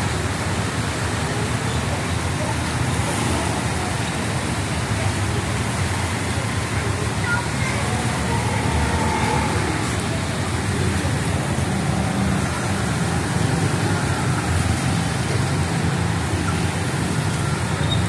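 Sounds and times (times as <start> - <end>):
heavy rain falling: 0.0 - 18.0
vehicles passing on wet road: 0.0 - 18.0.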